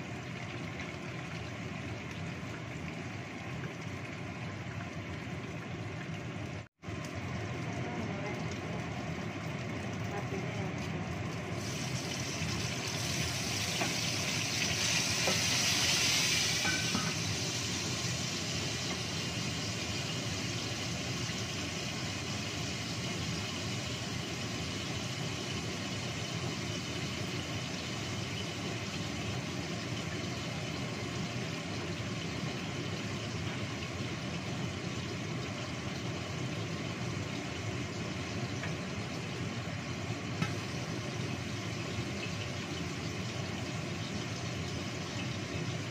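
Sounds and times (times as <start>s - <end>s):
chillies sizzling in oil: 6.9s - 45.9s.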